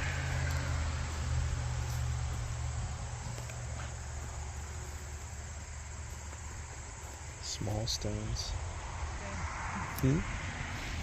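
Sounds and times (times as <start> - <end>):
crickets and insects chirring: 0.0 - 11.0
passing vehicle engine hum: 0.0 - 11.0.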